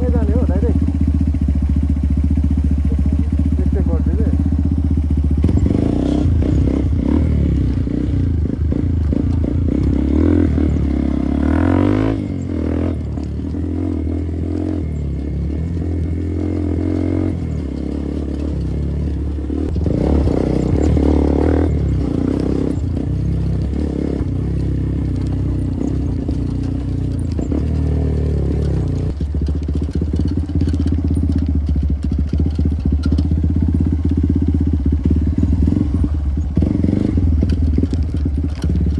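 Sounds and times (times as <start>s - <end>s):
motorcycle engine revving: 0.0s - 38.9s
rattling: 2.7s - 38.9s.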